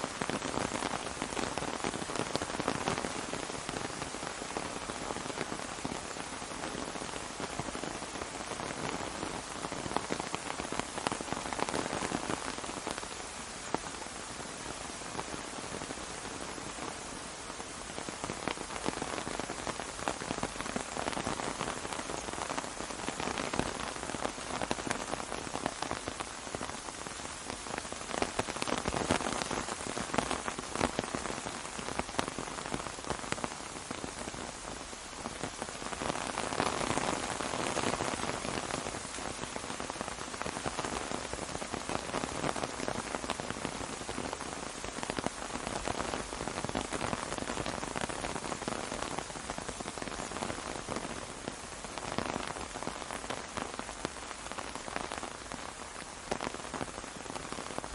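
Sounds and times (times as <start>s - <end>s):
rain on an umbrella: 0.0s - 57.9s.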